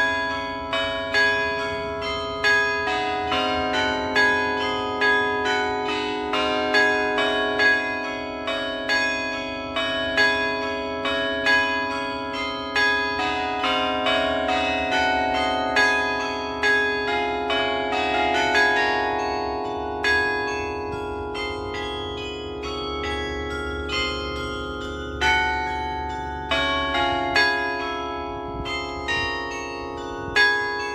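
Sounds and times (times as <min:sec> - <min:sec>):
carillon bells playing tune: 0:00.0 - 0:30.9.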